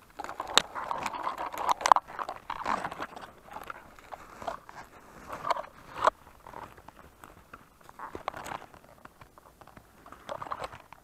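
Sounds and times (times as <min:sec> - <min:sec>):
twigs and leaves crackling: 0:00.0 - 0:11.0.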